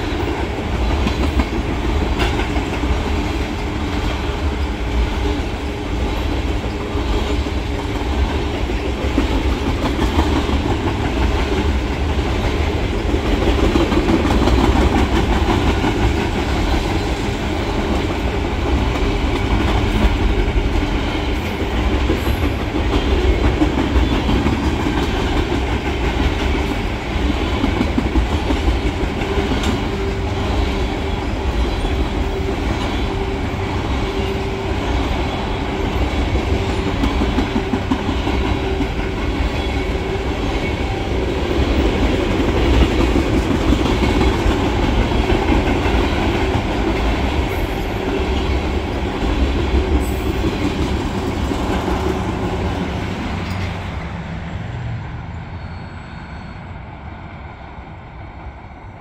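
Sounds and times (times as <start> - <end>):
wheels clacking over rail joints: 0.0 - 54.1
train wheels rumbling on rail: 0.0 - 59.0.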